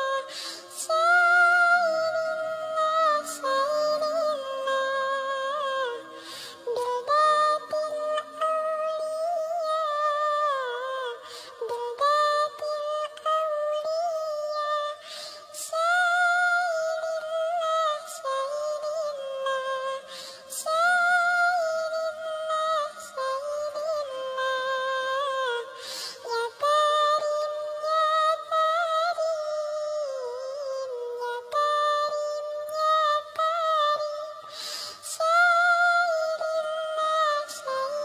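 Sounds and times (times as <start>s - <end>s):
synthetic singing voice: 0.0s - 38.0s.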